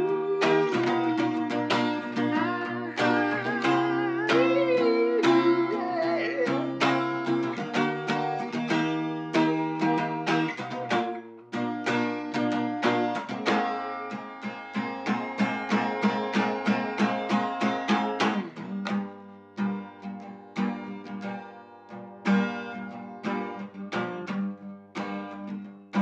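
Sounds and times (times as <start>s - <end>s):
guitar picked notes: 0.0s - 26.0s.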